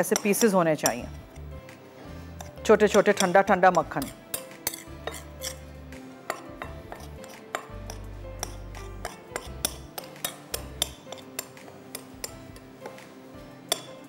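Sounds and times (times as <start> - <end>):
low background music: 0.0 - 14.0.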